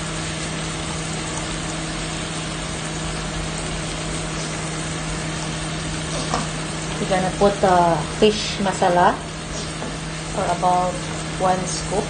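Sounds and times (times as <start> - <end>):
low mechanical hum: 0.0 - 12.0
vegetables sizzling in oil: 0.0 - 12.0.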